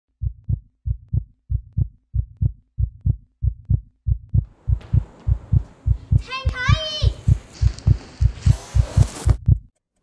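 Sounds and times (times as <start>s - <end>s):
heartbeat thumps: 0.2s - 9.7s.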